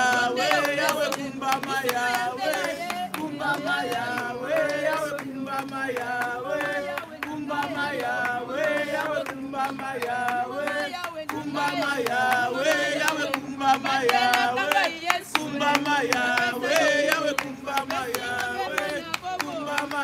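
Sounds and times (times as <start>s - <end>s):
hand clapping: 0.0s - 20.0s
women singing a hymn: 0.0s - 20.0s.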